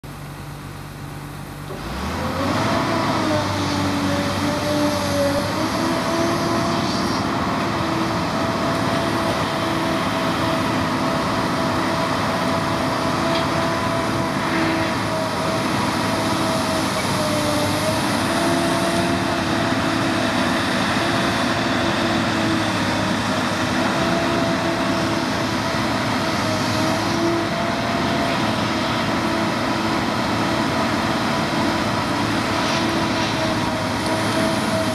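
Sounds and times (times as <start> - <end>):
diesel engine running: 0.0 - 34.9
engine whine: 0.0 - 34.9.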